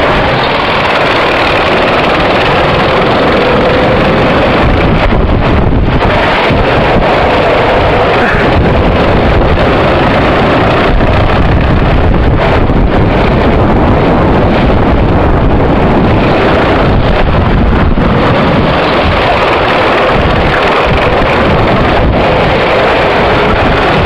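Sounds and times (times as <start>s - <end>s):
go-kart engine running: 0.0s - 24.0s
wind rushing over microphone: 0.0s - 24.0s.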